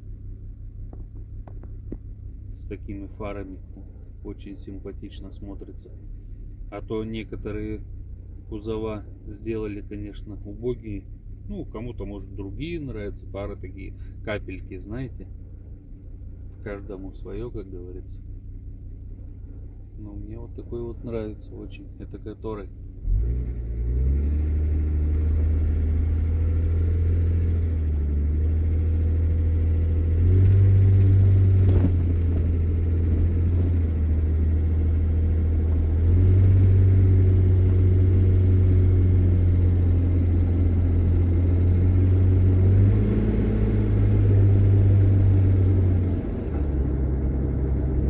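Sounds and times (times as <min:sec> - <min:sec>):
vehicle engine drone from cab: 0:00.0 - 0:48.0.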